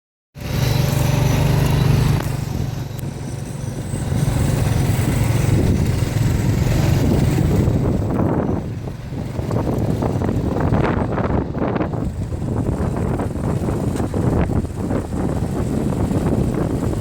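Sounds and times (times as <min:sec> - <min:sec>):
atv engine running: 0:00.4 - 0:17.0.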